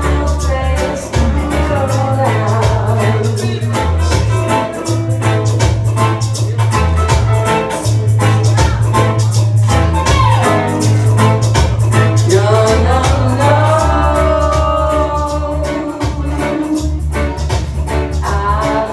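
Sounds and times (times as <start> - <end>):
person singing: 0.0 - 9.1, 9.8 - 18.9
latin dance music: 0.0 - 18.9.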